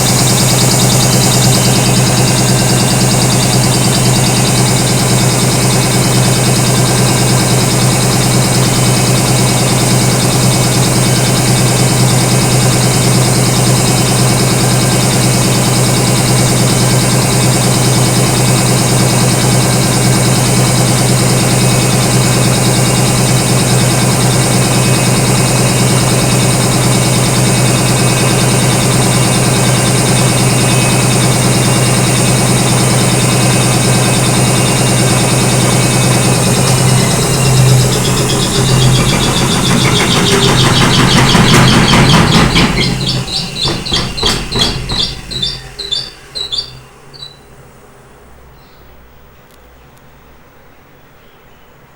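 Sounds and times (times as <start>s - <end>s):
washing machine motor humming: 0.0s - 47.6s.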